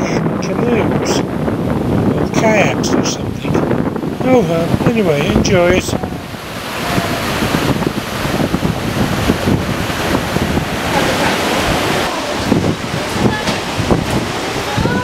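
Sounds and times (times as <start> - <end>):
rapids rushing over rocks: 0.0 - 15.0
wind buffeting microphone: 0.0 - 15.0.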